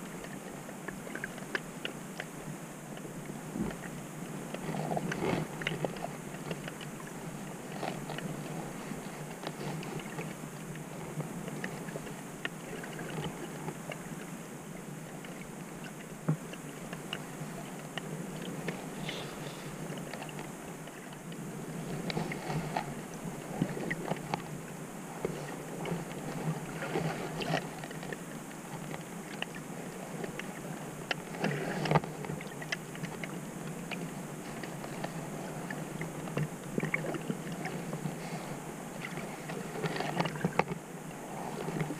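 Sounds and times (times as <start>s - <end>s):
crackling clicks underwater: 0.0s - 41.9s
muffled hiss of moving water: 0.0s - 41.9s.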